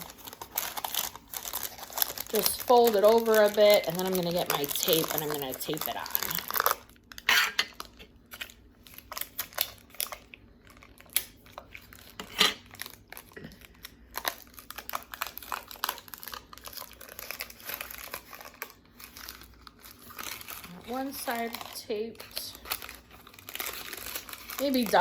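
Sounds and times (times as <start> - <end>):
paper crinkling: 0.0 - 25.0.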